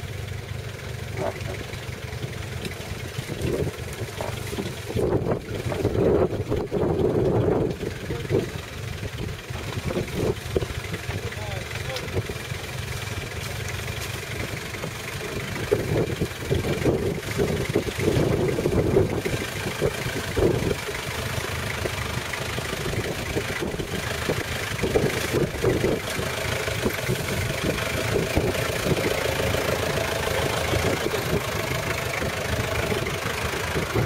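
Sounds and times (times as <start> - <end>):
truck engine running low: 0.0 - 34.0
branches scraping vehicle body: 1.1 - 33.1.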